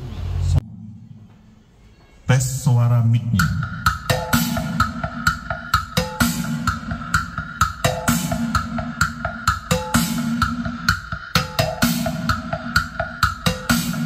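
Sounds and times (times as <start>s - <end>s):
drum-led music over loudspeakers: 2.3s - 14.0s.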